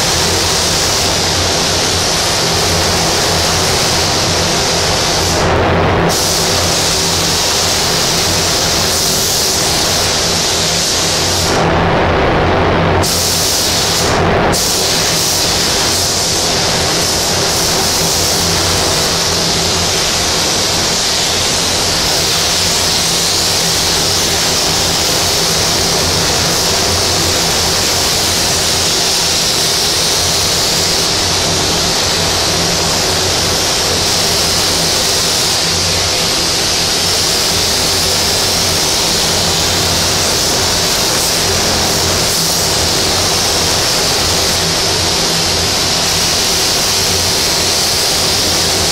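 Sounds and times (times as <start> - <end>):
spray gun hissing: 0.0 - 11.6, 13.0 - 48.9.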